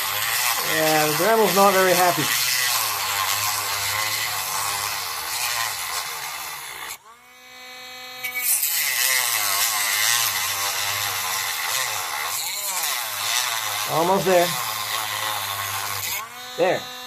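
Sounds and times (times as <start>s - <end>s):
rotary tool grinding plastic: 0.0s - 17.0s
rotary tool motor whine: 0.0s - 17.0s.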